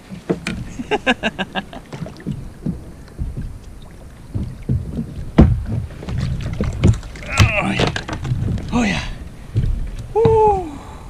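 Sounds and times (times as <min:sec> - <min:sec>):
fish slapping and splashing: 0:00.0 - 0:10.5
knocks: 0:00.0 - 0:10.6
heavy thump: 0:00.2 - 0:10.7.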